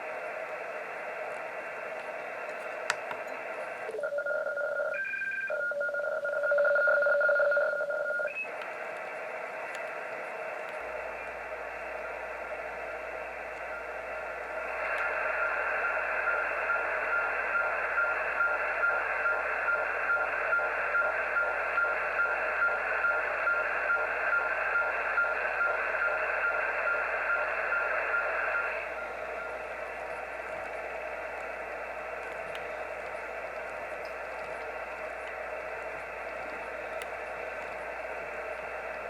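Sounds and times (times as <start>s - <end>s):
pulsing chopped radio tone: 0.0s - 39.0s
radio static hiss: 0.0s - 39.0s.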